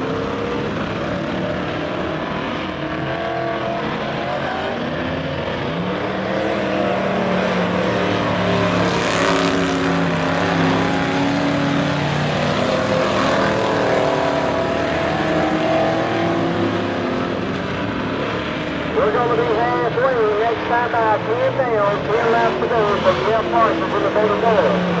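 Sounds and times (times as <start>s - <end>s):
race car engines passing: 0.0s - 25.0s.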